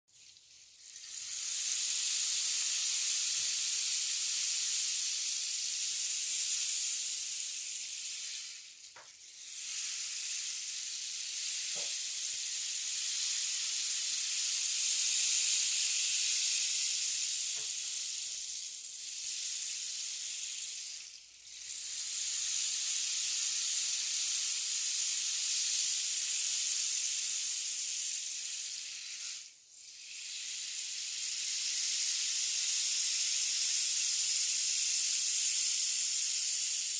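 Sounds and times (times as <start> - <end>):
rain stick hissing rush: 0.2 - 36.9.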